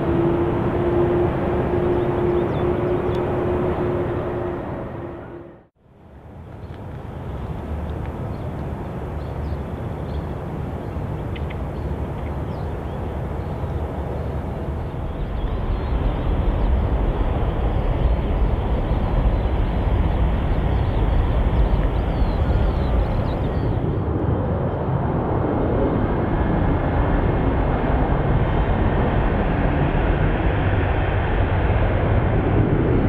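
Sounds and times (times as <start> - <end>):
distant jet airliner rumbling: 0.0 - 33.0
outdoor background noise: 0.0 - 33.0.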